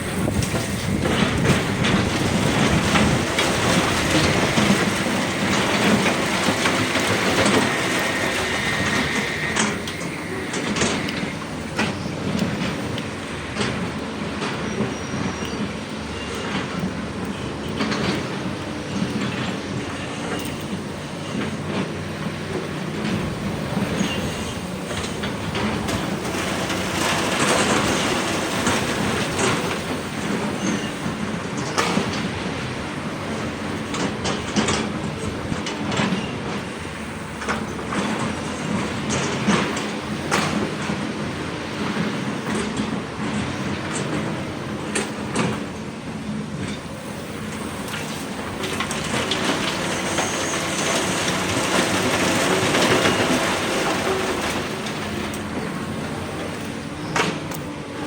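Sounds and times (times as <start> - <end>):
excavator clanks and rattles: 0.0 - 58.0
excavator diesel engine under load: 0.0 - 58.0.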